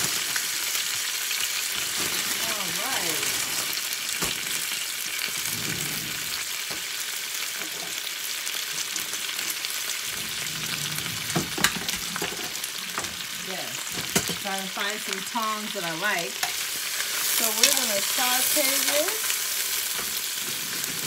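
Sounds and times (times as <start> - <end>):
spinach sizzling in a frying pan: 0.0 - 21.0.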